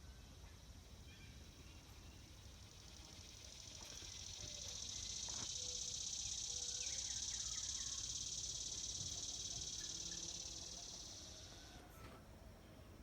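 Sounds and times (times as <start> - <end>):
cicadas buzzing: 0.0 - 11.9
faint bird chirps: 0.0 - 13.0.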